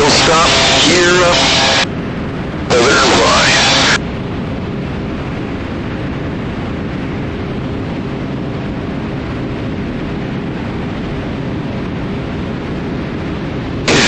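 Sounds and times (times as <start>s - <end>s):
piston aircraft engines and propellers: 0.0s - 14.0s
wind rush on microphone: 0.0s - 14.0s.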